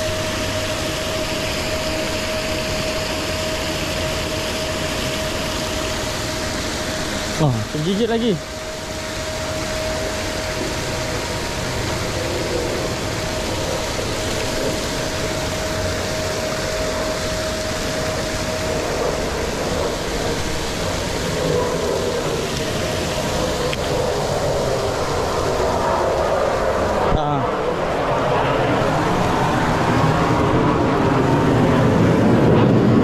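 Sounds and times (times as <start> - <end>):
thin steady tone: 0.0 - 27.8
aerators churning pond water: 0.0 - 33.0.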